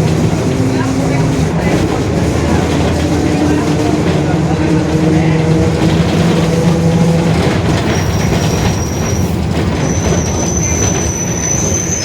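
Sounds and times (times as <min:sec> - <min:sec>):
bus running with road noise: 0:00.0 - 0:12.0.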